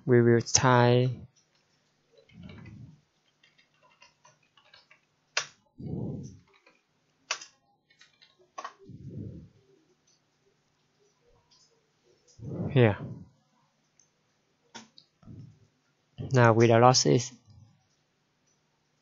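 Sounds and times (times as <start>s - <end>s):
faint keyboard typing: 0.4s - 16.7s, 17.3s - 19.0s.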